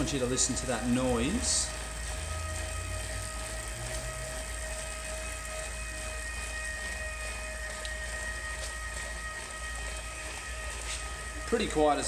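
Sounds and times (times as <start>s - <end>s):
bike trainer whine: 0.0s - 12.0s
low hum: 0.0s - 12.0s.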